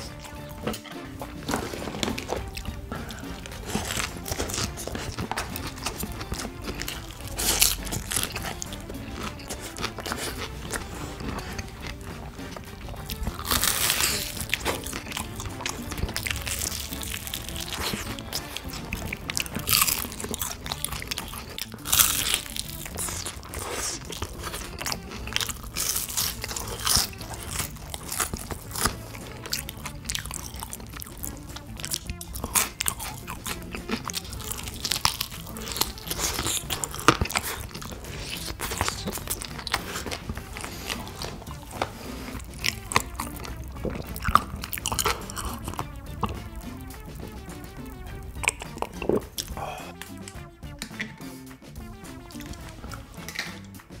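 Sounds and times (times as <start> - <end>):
crunching bites and chewing: 0.0 - 51.2, 51.8 - 54.0.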